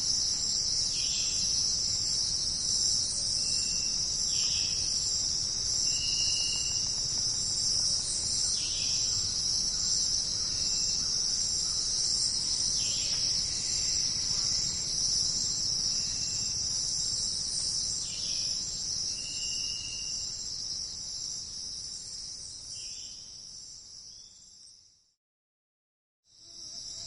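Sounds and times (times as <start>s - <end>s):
insects buzzing and trilling: 0.0s - 25.0s, 26.3s - 27.0s.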